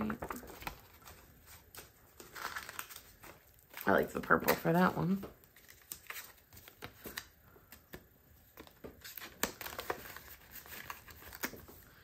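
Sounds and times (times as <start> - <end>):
paper bills rustling: 0.0 - 4.7, 5.5 - 11.8.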